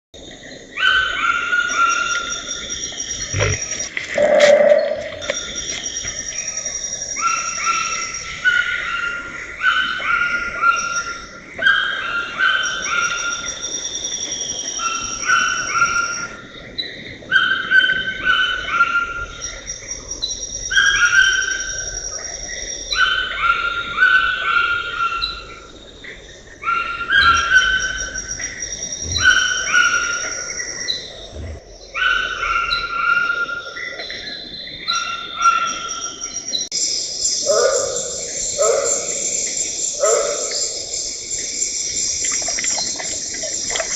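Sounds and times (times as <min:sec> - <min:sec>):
bird singing: 0:00.2 - 0:43.8.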